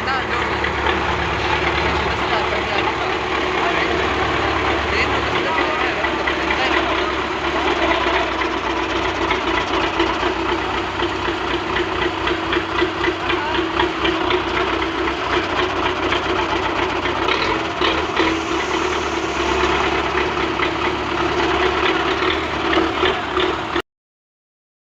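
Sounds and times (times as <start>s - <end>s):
tractor engine running steadily: 0.0s - 23.8s.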